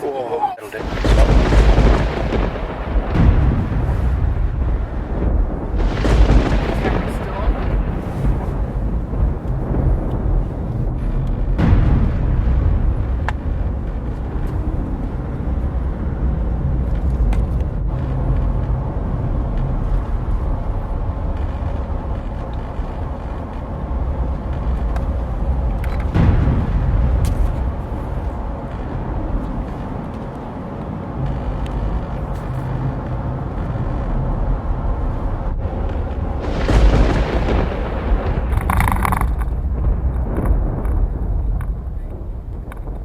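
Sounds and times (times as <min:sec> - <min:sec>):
thunder crash: 0:00.7 - 0:17.0, 0:21.3 - 0:31.7, 0:34.8 - 0:43.0
low thunder rumble: 0:00.7 - 0:43.0.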